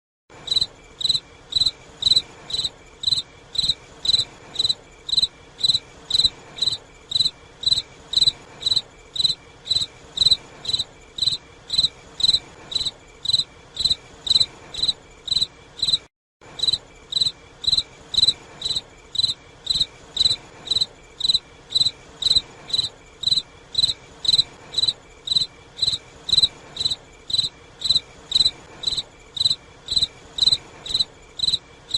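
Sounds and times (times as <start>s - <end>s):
cricket chirping: 0.4s - 31.9s.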